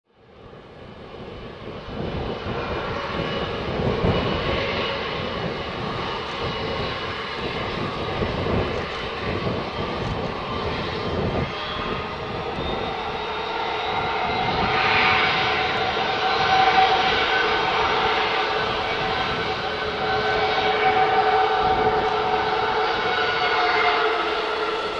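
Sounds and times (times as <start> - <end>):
jet engines whining at low thrust: 0.1 - 24.9.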